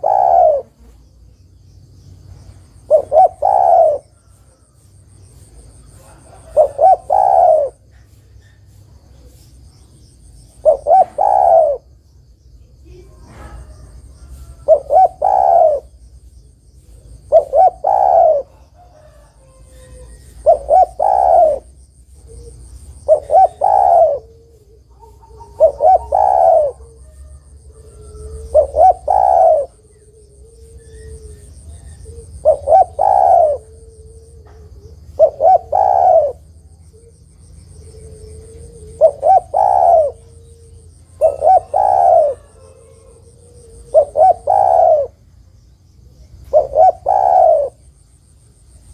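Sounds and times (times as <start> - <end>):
dove cooing: 0.0 - 1.0, 2.7 - 4.6, 5.4 - 8.6, 10.5 - 12.0, 12.9 - 16.0, 16.8 - 45.3, 46.1 - 47.9.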